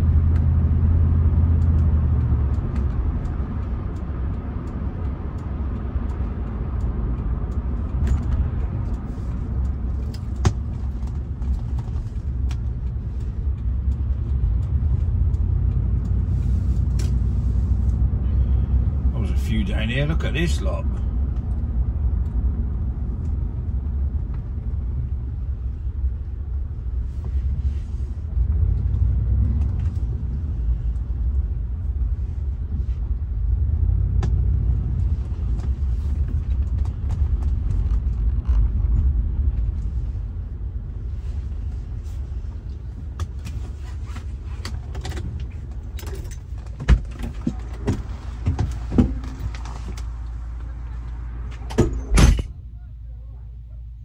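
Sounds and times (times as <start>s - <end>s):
car engine low rumble: 0.0s - 54.0s.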